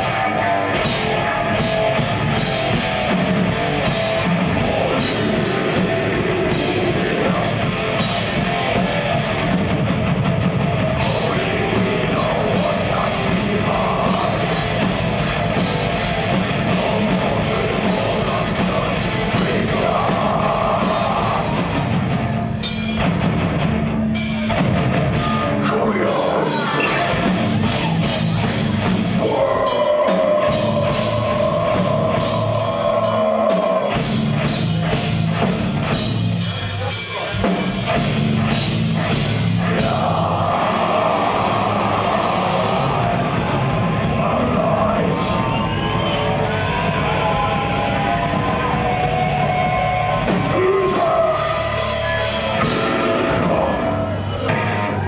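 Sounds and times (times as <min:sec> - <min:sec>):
fast drumming: 0:00.0 - 0:54.3
distorted electric guitars: 0:00.0 - 0:55.0.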